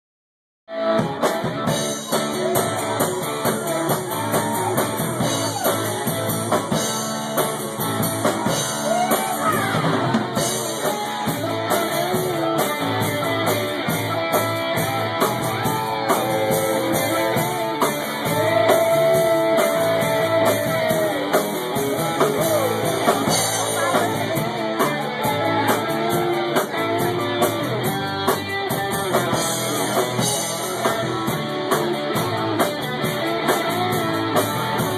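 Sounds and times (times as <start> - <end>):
drum kit: 0.7 - 34.9
electric guitar: 0.7 - 34.9.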